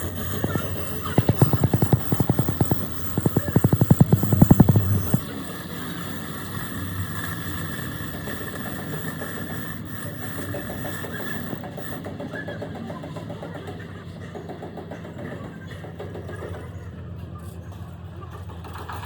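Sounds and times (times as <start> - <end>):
machine running steadily: 0.0 - 19.0.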